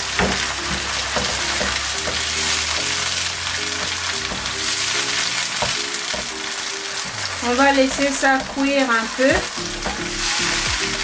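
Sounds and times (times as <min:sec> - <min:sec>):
onions and sauce sizzling: 0:00.0 - 0:11.0
wooden spoon scraping a pan: 0:00.0 - 0:11.0.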